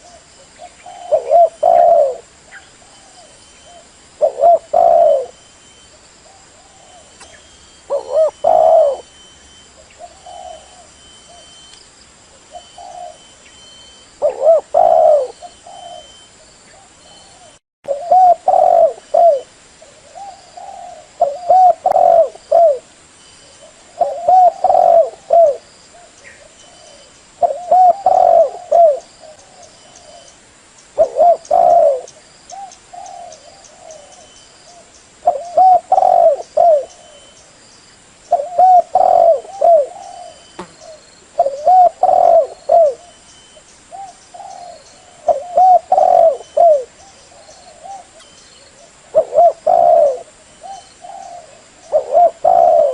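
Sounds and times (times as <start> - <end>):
dove cooing: 0.0 - 11.6, 12.4 - 22.9, 23.5 - 30.4, 31.0 - 37.4, 38.3 - 43.3, 43.9 - 52.9.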